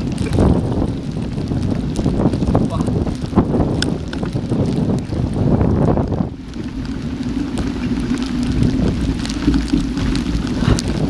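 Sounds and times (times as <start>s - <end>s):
bike rattling over gravel: 0.0s - 11.0s
wind buffeting microphone: 0.0s - 11.0s.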